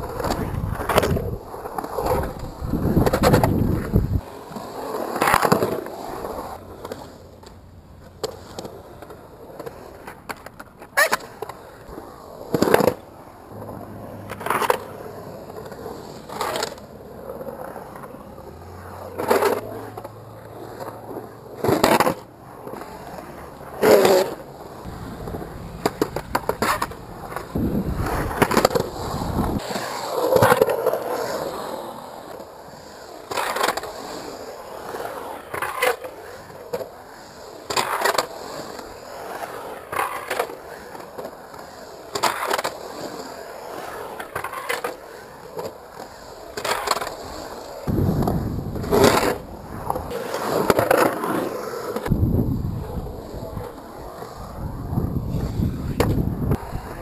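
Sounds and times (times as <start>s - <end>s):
skateboard trucks clacking on coping: 0.0s - 57.0s
skateboard wheels rolling on concrete: 0.0s - 57.0s.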